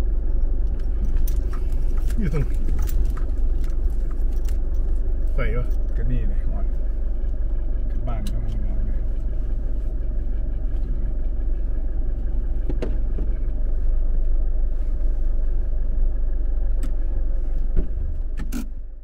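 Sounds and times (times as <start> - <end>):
car rolling on gravel: 0.0 - 18.1.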